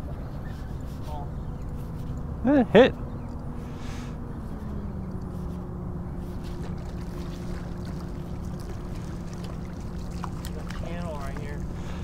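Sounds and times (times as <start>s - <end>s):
boat motor humming: 0.0s - 12.0s
wind and water rumble: 0.0s - 12.0s.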